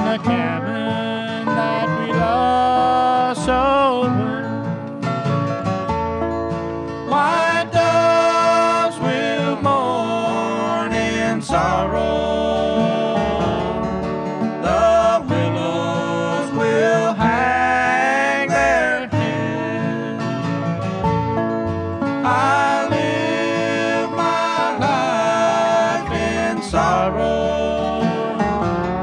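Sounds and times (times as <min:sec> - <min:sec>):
bluegrass string band music: 0:00.0 - 0:29.0.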